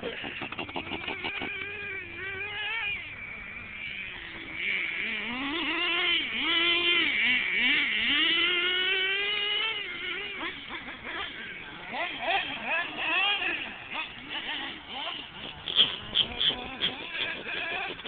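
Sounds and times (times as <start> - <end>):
small engine revving with high buzz: 0.0 - 18.0.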